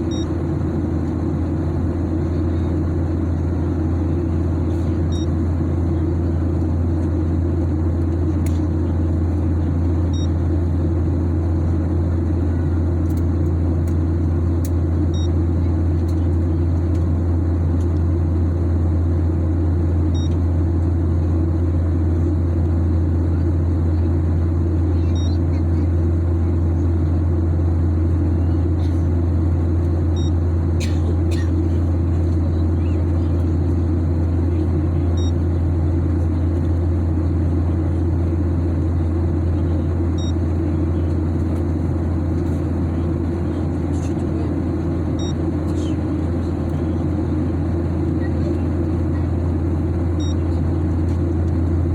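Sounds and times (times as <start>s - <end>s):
airliner cabin drone: 0.0s - 51.9s.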